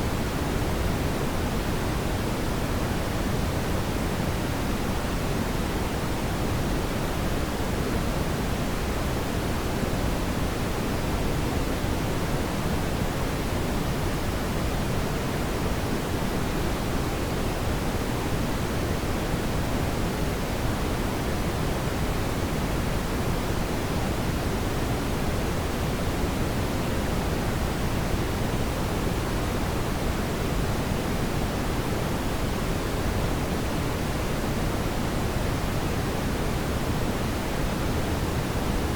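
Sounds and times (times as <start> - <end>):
steady brown noise hiss: 0.0 - 38.9.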